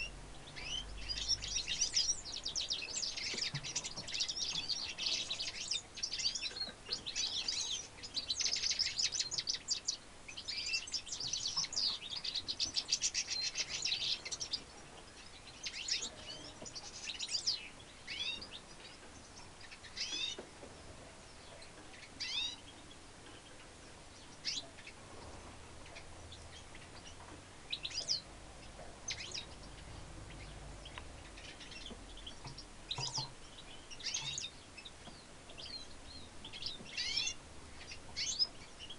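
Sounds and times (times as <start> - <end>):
finch singing: 0.0 - 38.9.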